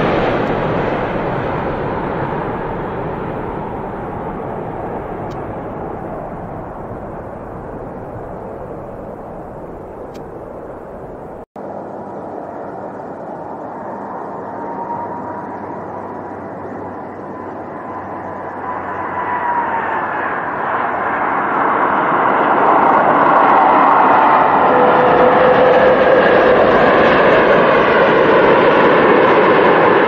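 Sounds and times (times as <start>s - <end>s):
airliner jet engines landing: 0.0s - 30.0s.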